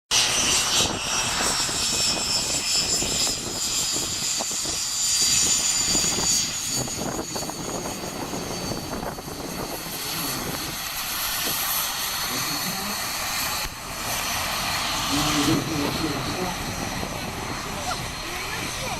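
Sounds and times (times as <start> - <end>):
jet engine whine: 0.1 - 18.9
wind buffeting microphone: 0.2 - 18.9.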